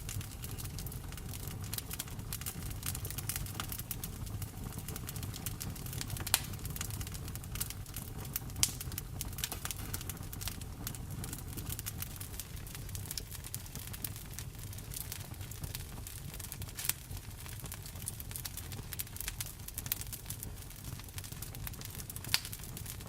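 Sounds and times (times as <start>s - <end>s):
low rumble of rain: 0.0s - 23.0s
wood fire crackling: 0.0s - 23.0s.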